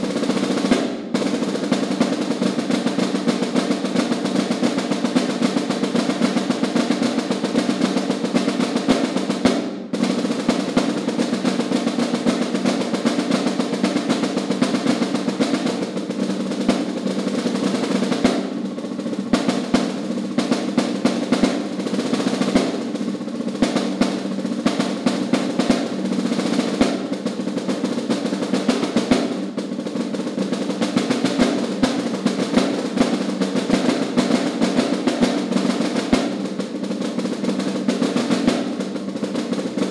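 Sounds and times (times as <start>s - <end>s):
snare drum rolls: 0.0s - 39.9s.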